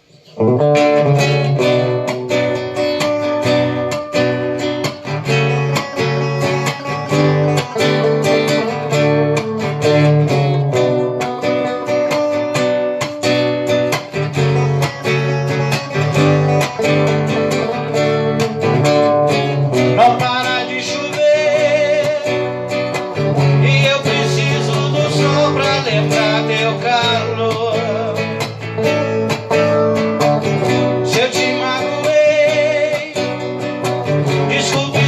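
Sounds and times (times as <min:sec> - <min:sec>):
guitar strumming chords: 0:00.0 - 0:35.0.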